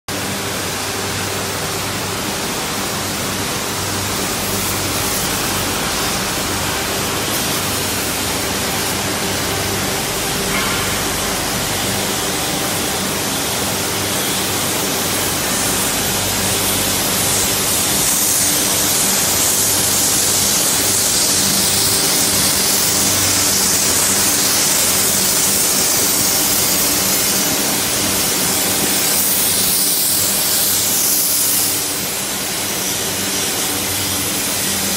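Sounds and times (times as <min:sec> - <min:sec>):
arc gouging hiss: 0:00.1 - 0:34.9
low electrical hum: 0:00.1 - 0:34.9.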